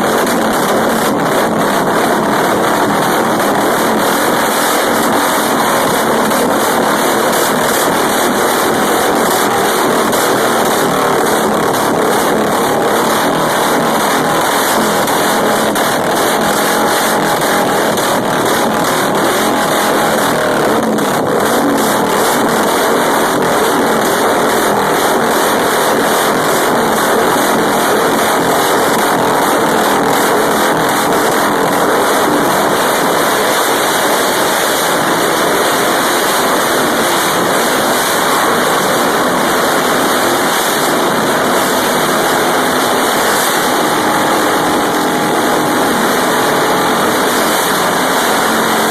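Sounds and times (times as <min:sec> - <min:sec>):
loud motor running: 0:00.0 - 0:48.9.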